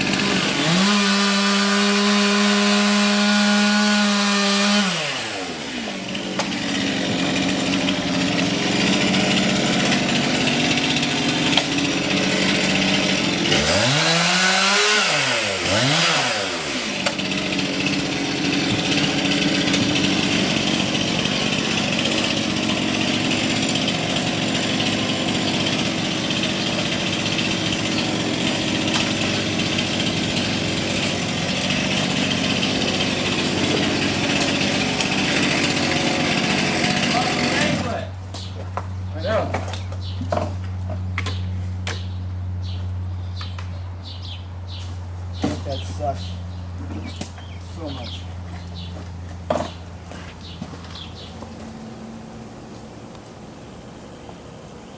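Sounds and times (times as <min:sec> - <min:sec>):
chainsaw engine revving: 0:00.0 - 0:38.2, 0:46.8 - 0:52.6.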